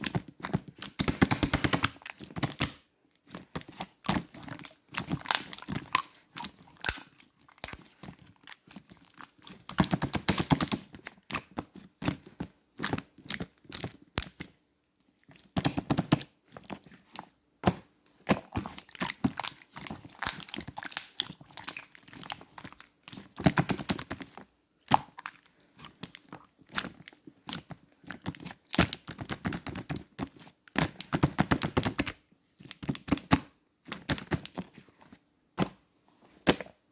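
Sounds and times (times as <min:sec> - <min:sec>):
slime squished by hand: 0:00.0 - 0:14.6, 0:15.3 - 0:33.3.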